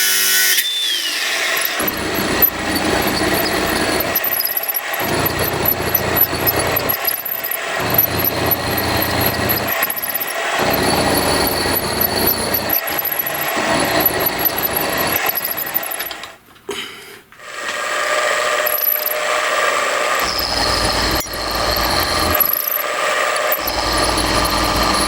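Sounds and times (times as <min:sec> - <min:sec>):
power tool whining: 0:00.0 - 0:16.1, 0:18.2 - 0:19.3, 0:20.2 - 0:25.0.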